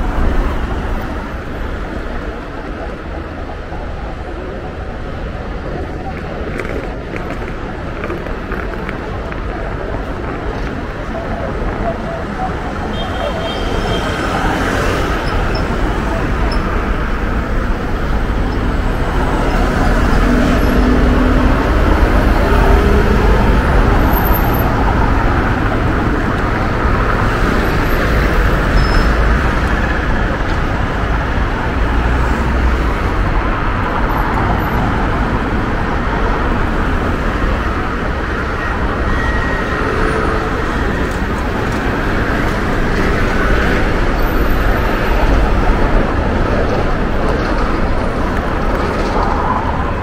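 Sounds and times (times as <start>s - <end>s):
busy road traffic: 0.0s - 50.0s.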